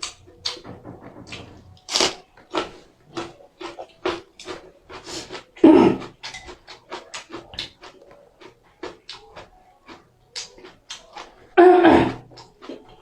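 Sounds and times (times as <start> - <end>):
slurping and chewing noodles: 2.6 - 13.0.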